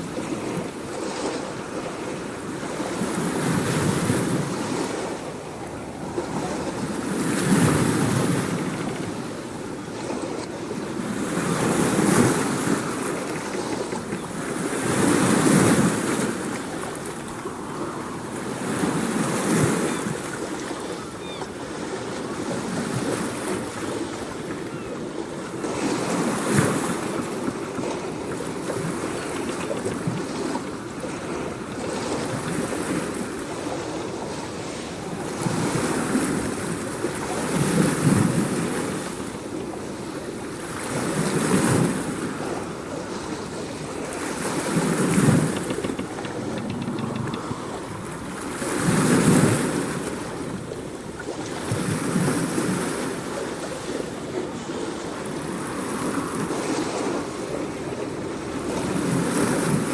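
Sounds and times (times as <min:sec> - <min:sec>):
surf washing onto shore: 0:00.0 - 0:59.9.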